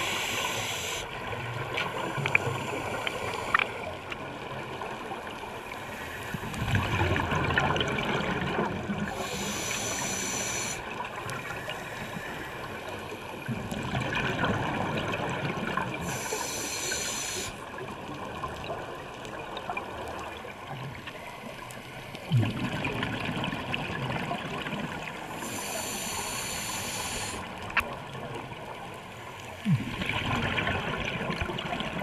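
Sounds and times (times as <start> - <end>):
underwater hiss and rumble: 0.0 - 32.0.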